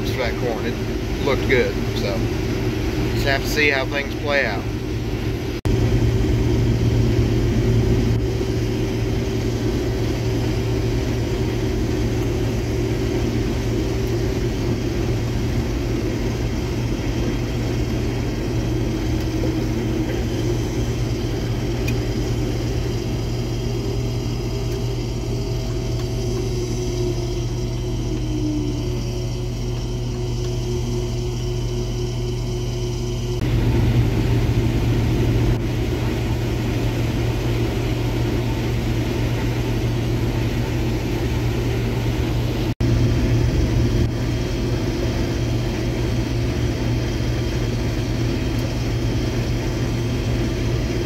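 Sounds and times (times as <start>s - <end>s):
combine harvester running: 0.0s - 51.0s.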